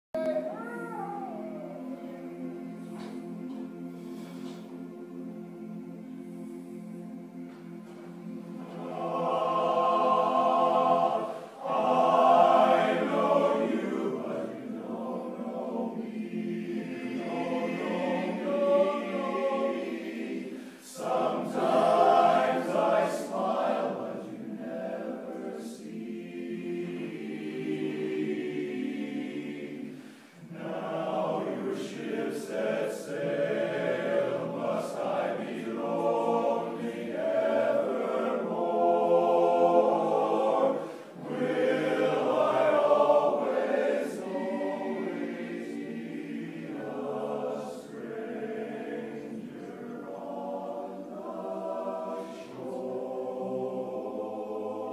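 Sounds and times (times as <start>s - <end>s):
men's chorus singing a cappella: 2.2s - 54.9s.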